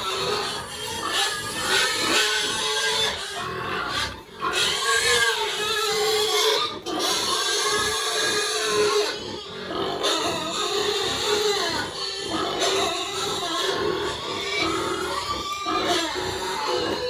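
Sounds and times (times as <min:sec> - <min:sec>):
pigs calling: 0:00.0 - 0:17.0.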